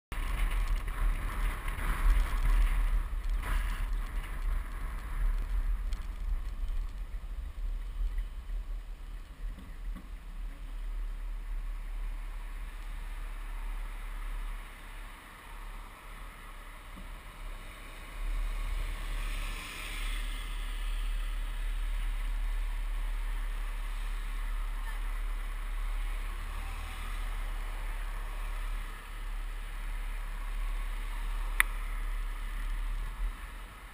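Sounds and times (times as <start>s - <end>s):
road and wind noise: 0.1s - 33.9s
traffic passing: 0.1s - 33.9s.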